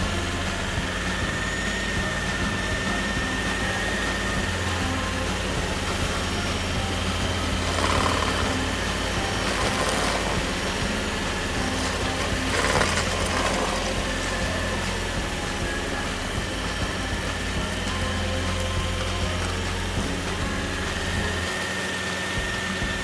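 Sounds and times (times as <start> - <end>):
cutter wheel grinding wood: 0.0 - 23.0
stump grinder engine humming: 0.0 - 23.0.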